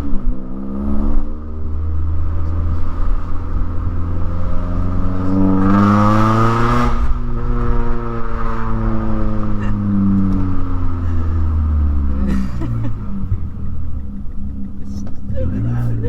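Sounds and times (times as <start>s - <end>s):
raspy car exhaust revving: 0.0s - 16.0s.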